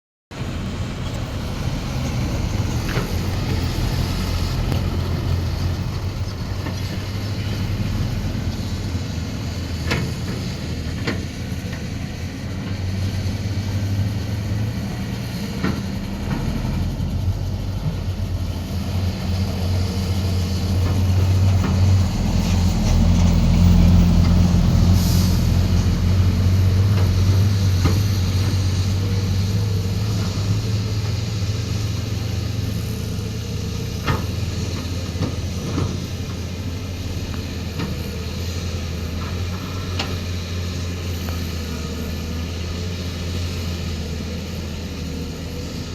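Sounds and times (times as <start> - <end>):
excavator diesel engine droning: 0.3 - 45.9.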